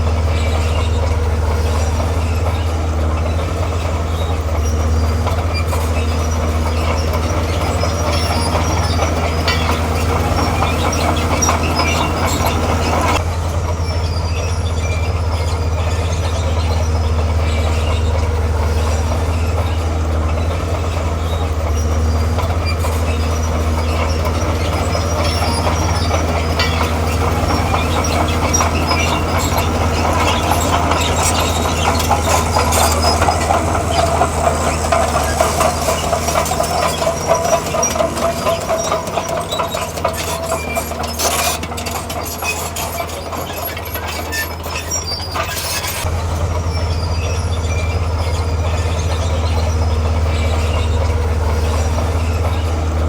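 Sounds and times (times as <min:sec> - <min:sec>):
diesel engine running: 0:00.0 - 0:53.0
steel tracks clanking and squealing: 0:00.0 - 0:53.0.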